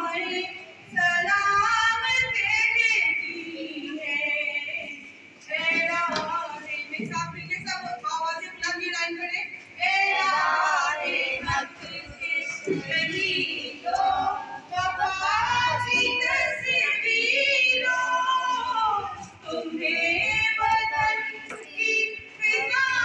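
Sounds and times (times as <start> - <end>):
woman singing over loudspeaker: 0.0 - 23.0.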